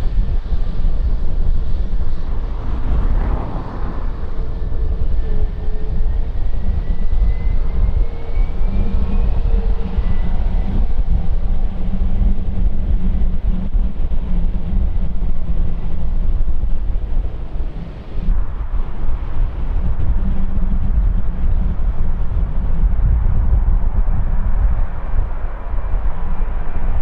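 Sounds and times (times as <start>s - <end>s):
jet airliner engines rumbling: 0.0s - 27.0s.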